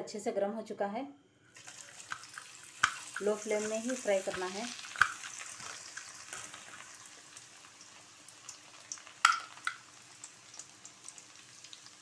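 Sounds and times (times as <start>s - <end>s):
dough frying in hot oil: 1.6s - 12.0s.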